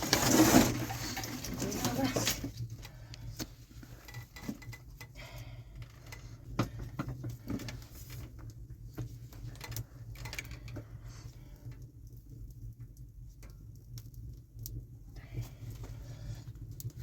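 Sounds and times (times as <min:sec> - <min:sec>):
steady low hum: 0:00.6 - 0:17.0.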